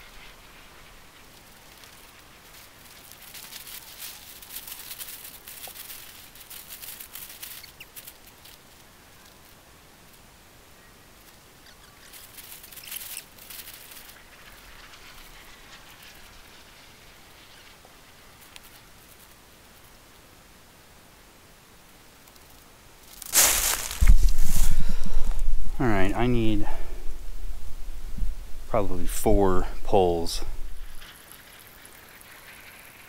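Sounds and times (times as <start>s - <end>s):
faint rustling and crackling: 0.0s - 20.3s, 21.8s - 33.0s.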